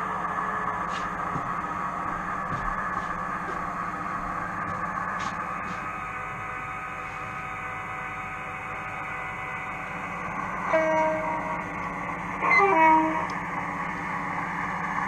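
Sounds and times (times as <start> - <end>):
model train motor hum: 0.0 - 15.0.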